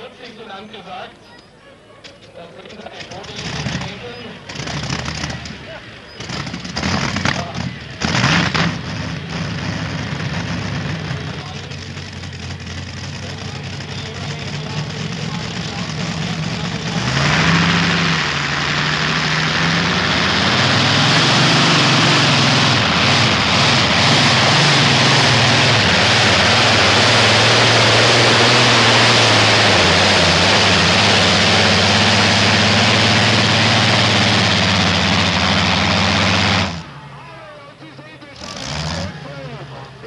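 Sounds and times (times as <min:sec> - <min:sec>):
tractor engine at full throttle: 0:02.6 - 0:40.0.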